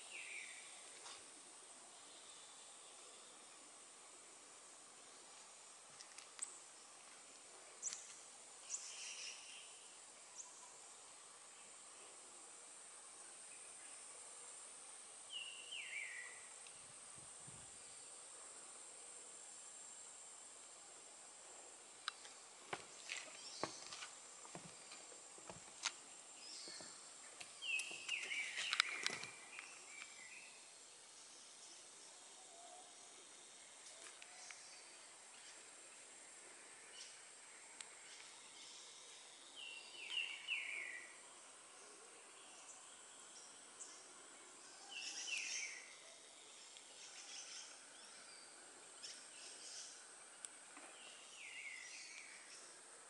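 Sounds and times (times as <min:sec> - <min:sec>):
high-pitched insect hum: 0:00.0 - 0:53.0.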